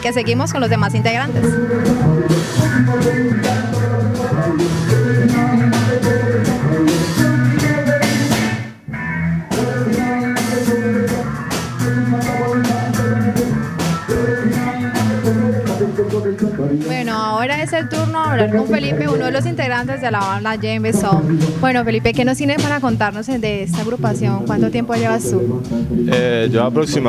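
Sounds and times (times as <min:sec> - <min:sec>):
reggae band playing: 0:00.0 - 0:27.0.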